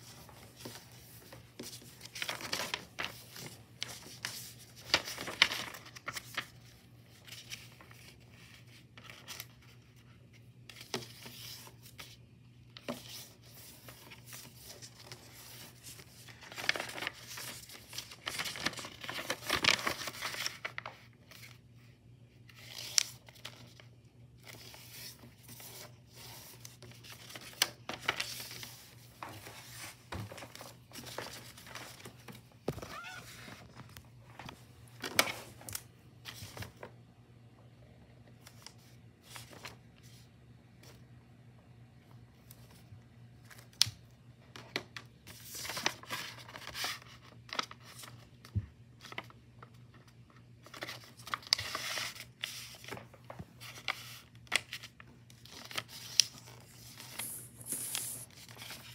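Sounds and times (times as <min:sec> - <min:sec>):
paper rustling and crinkling: 0:00.0 - 0:21.6, 0:22.4 - 0:37.0, 0:38.2 - 0:41.0, 0:42.4 - 0:58.9.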